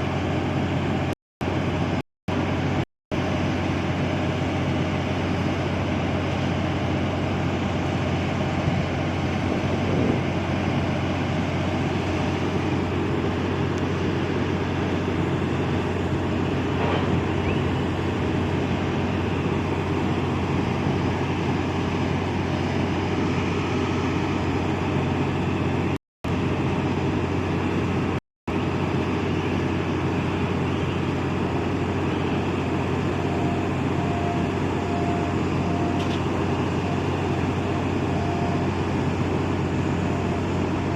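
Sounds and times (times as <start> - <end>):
ship diesel engine droning: 0.0 - 40.9.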